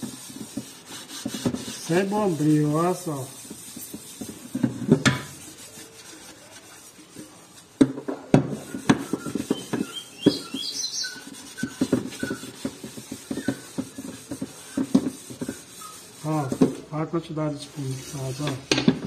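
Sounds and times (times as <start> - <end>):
sponge scrubbing metal pot: 0.0 - 18.7.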